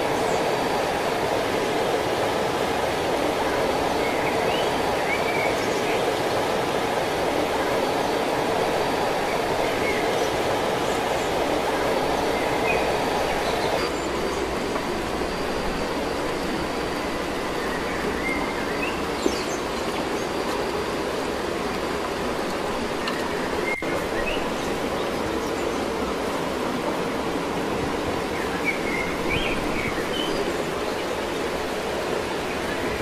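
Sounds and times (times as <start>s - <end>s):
running water rushing: 0.0s - 33.0s.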